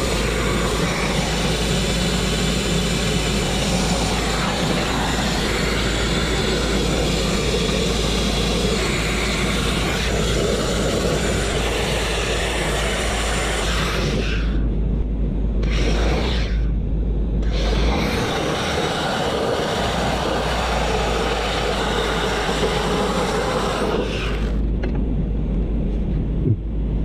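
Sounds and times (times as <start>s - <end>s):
grit blasting hiss: 0.0s - 14.6s, 15.6s - 16.7s, 17.4s - 24.6s
low rumble: 0.0s - 27.0s.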